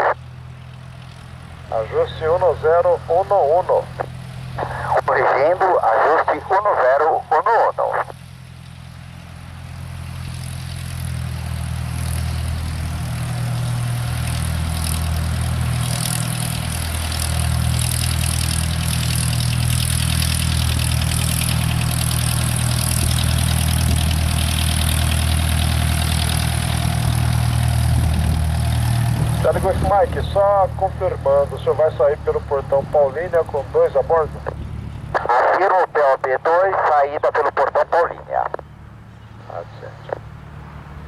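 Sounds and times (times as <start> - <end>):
light aircraft engine running: 0.0 - 41.0.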